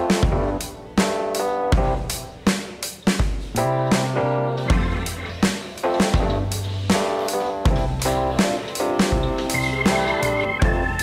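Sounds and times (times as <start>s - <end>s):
light pop music: 0.0s - 11.0s.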